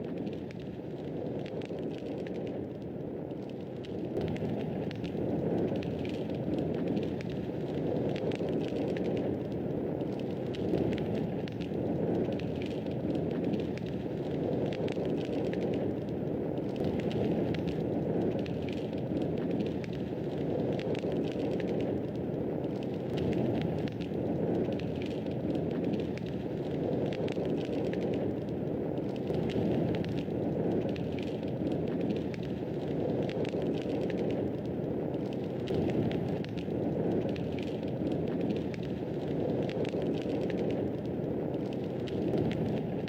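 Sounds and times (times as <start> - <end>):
fireplace flames rushing: 0.0 - 43.0
wood crackling and popping: 0.0 - 43.0.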